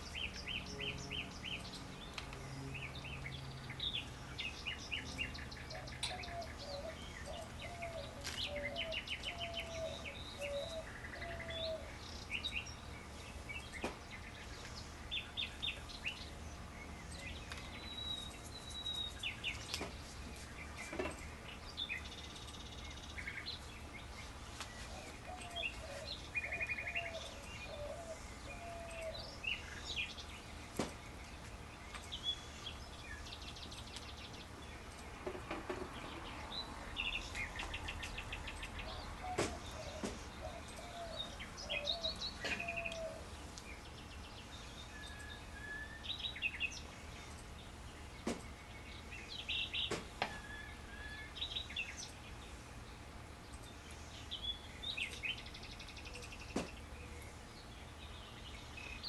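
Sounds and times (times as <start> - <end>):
birds chirping: 0.0 - 59.0
low background hum: 0.0 - 59.0.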